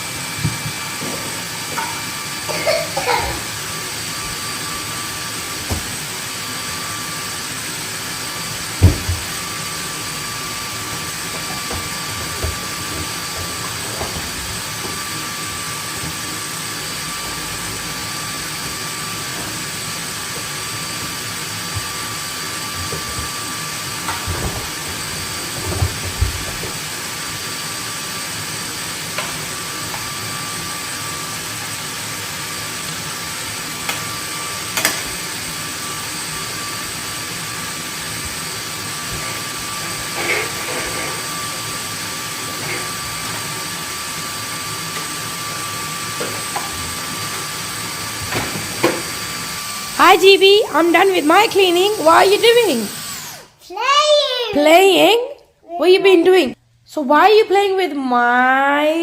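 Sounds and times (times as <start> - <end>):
vacuum cleaner motor whining: 0.0 - 53.6.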